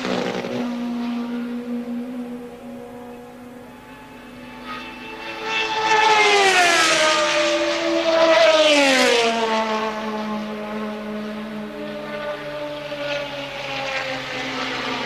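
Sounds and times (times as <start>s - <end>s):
racing cars passing at speed: 0.0s - 15.0s.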